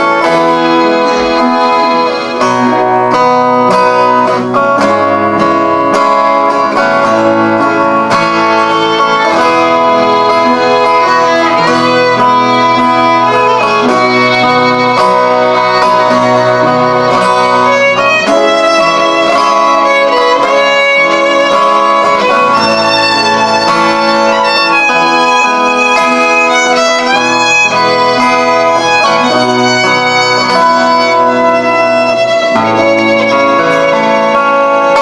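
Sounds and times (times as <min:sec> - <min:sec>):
fiddle playing folk tune: 0:00.0 - 0:35.0.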